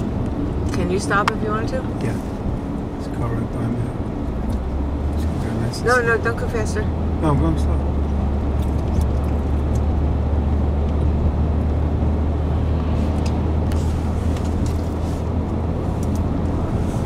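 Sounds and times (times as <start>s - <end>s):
car cabin engine drone: 0.0s - 17.0s
tyres on snowy road: 0.0s - 17.0s.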